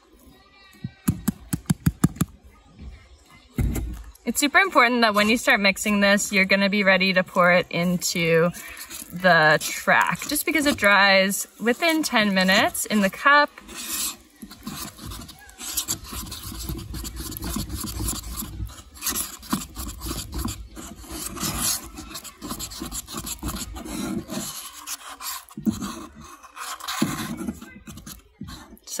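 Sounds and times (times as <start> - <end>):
plastic spoon scraping paper cup: 3.8 - 29.0.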